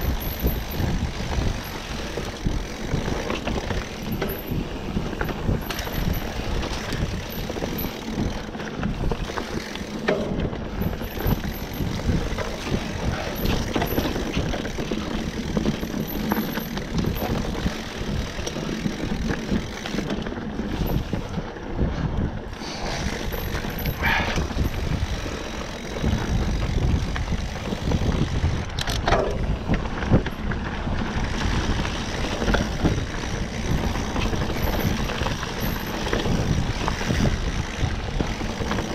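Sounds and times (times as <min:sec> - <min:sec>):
bike knocks and rattles: 0:00.0 - 0:38.9
tyres and wind rumbling: 0:00.0 - 0:38.9.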